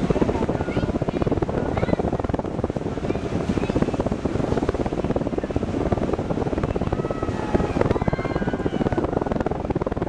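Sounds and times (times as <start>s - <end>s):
boat engine chugging: 0.0s - 10.0s
wind on microphone: 0.0s - 10.0s.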